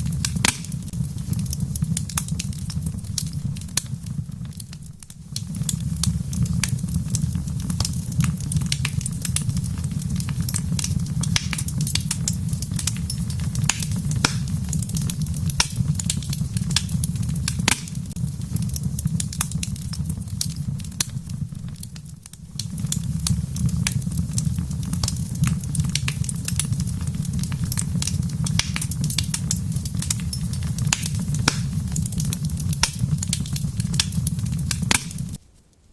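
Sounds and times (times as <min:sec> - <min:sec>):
fire crackling and popping: 0:00.0 - 0:35.9.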